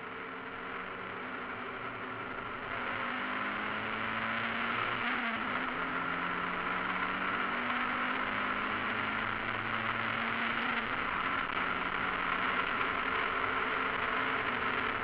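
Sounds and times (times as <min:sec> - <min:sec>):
race car engine running: 0:00.0 - 0:15.0
road noise: 0:00.0 - 0:15.0.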